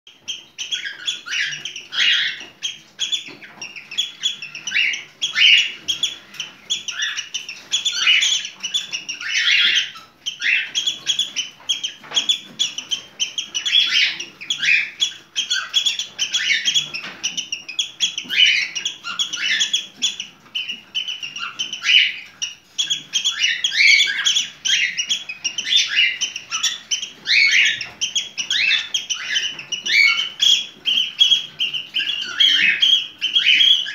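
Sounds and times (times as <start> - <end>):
cockatiel chirping: 0.1 - 33.9.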